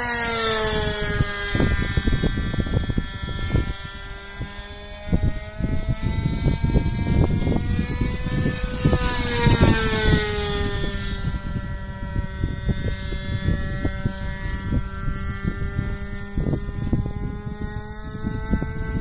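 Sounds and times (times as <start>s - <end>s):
model airplane engine buzzing: 0.0s - 19.0s
wind rumble on microphone: 0.0s - 19.0s.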